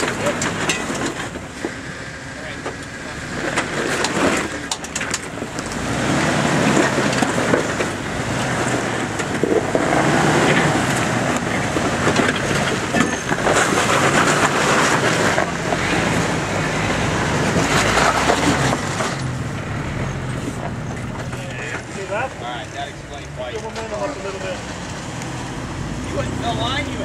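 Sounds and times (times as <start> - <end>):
car engine running low: 0.0 - 27.0
tyres crunching on gravel: 0.0 - 27.0.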